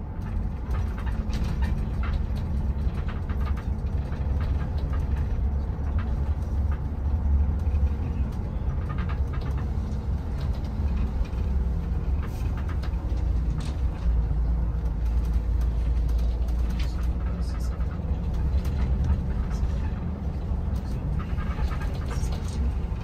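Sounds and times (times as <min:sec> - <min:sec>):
bus engine and road rumble: 0:00.0 - 0:23.0
faint clicks and rattles: 0:00.0 - 0:23.0.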